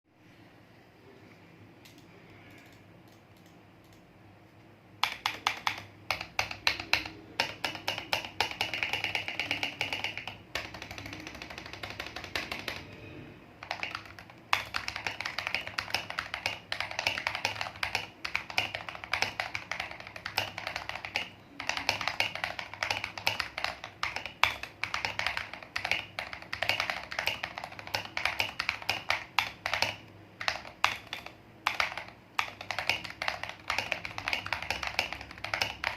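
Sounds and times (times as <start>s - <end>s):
mechanical keyboard typing: 5.0s - 35.9s.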